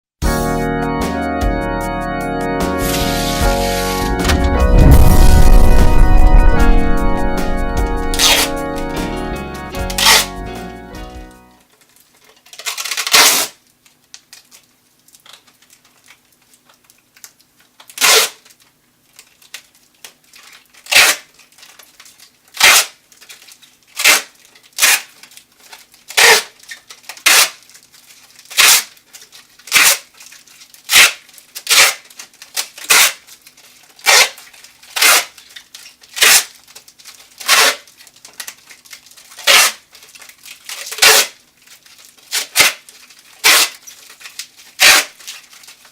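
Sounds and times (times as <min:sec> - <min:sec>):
tape ripping off a roll: 0:02.8 - 0:09.0, 0:09.8 - 0:10.4, 0:11.8 - 0:45.9.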